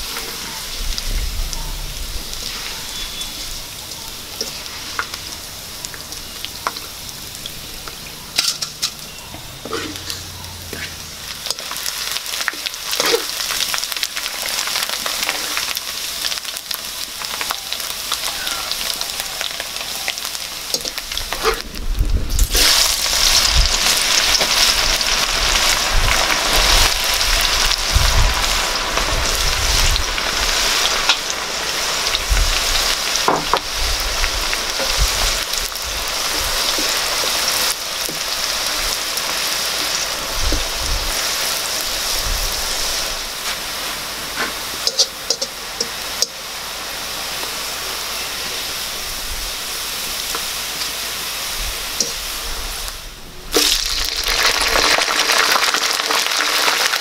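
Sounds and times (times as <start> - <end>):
hot oil sizzling in a wok: 0.0 - 57.0.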